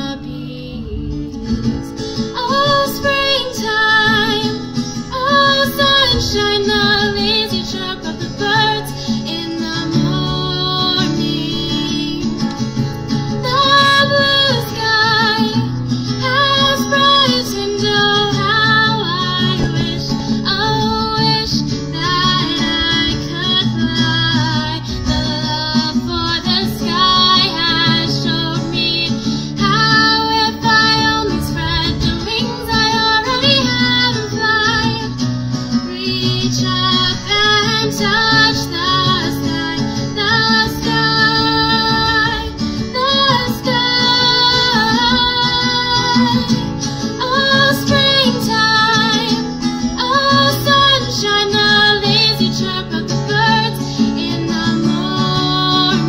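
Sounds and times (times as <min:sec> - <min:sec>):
acoustic guitar: 0:00.0 - 0:56.0
woman singing: 0:00.0 - 0:56.0.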